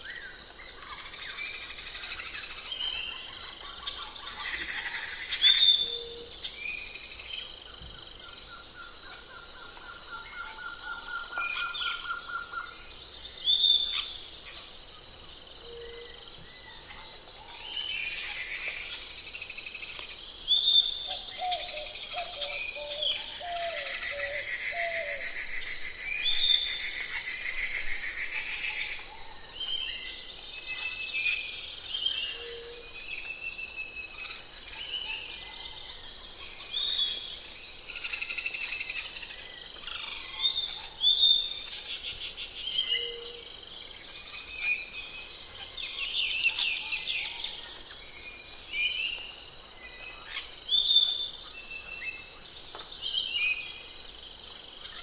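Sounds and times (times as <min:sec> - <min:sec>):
birds calling and chirping: 0:00.0 - 0:55.0.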